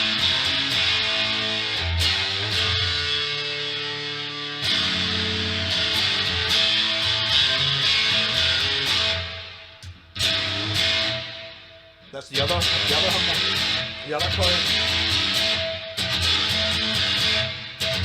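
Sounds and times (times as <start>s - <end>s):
electric guitar strumming chords: 0.0s - 18.0s.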